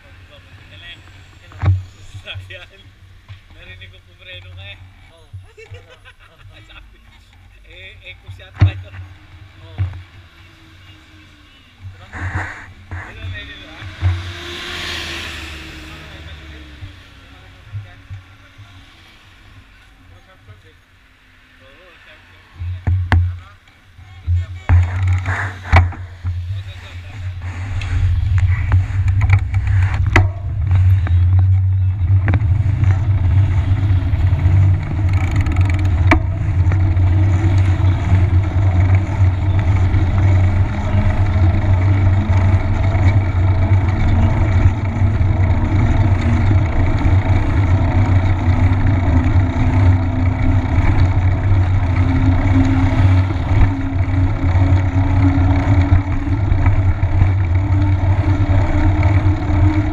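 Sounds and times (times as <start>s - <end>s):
bicycle tyre rolling on asphalt: 0.0s - 59.9s.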